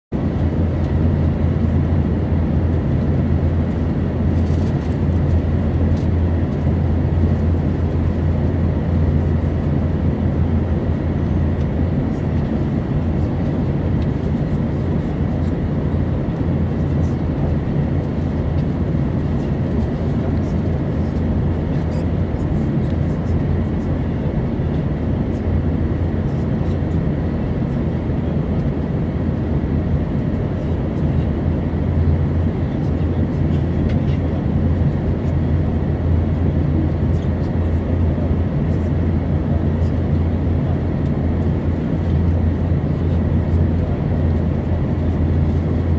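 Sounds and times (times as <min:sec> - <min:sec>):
airplane engines droning in cabin: 0:00.1 - 0:45.9.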